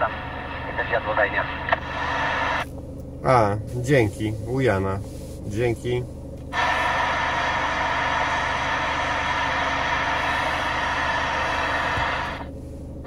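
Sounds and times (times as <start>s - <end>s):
radio static hiss: 0.0s - 2.7s, 3.3s - 12.5s
vehicle engine hum: 0.0s - 13.0s.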